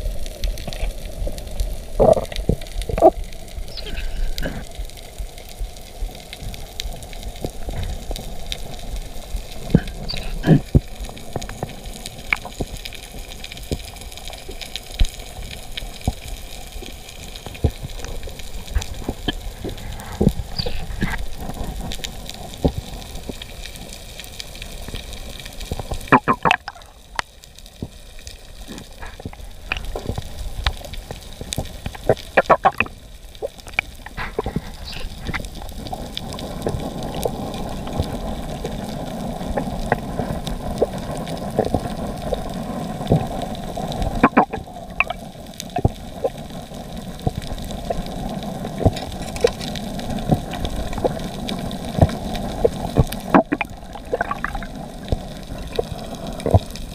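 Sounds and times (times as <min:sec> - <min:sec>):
scattered sharp clicks and crackles: 0:00.0 - 0:56.9
underwater rush of water: 0:00.0 - 0:56.9.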